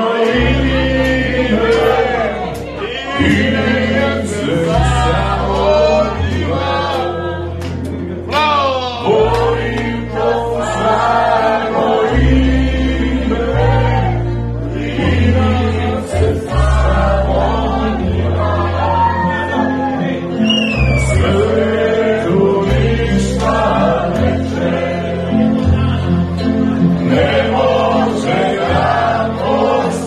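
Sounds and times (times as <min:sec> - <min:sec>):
acoustic guitar: 0:00.0 - 0:30.0
low keyboard bass notes: 0:00.0 - 0:30.0
men singing together: 0:00.0 - 0:30.0.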